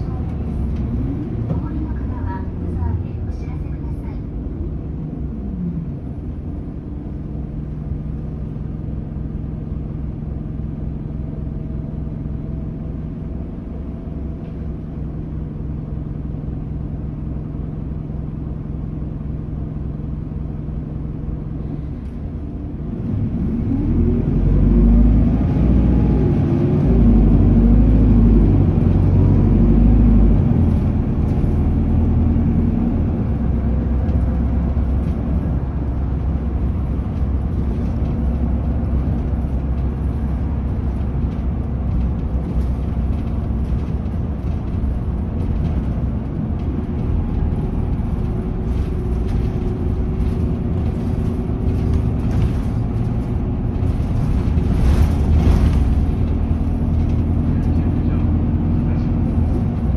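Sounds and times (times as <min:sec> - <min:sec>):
tyre and road noise: 0:00.0 - 0:10.4, 0:21.0 - 0:59.9
bus diesel engine: 0:00.0 - 0:59.9.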